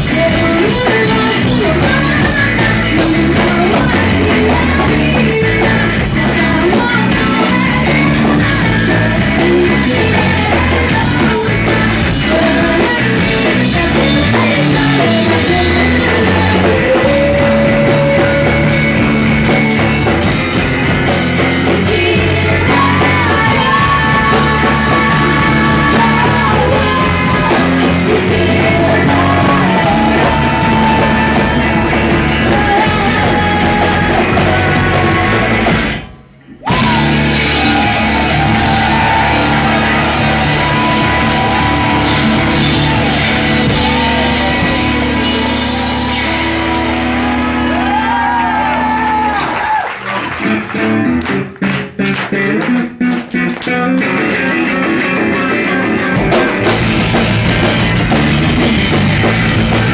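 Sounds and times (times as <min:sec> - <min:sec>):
person singing: 0:00.0 - 0:51.5
bass guitar: 0:00.0 - 0:59.9
drums: 0:00.0 - 0:59.9
electric guitars: 0:00.0 - 0:59.9.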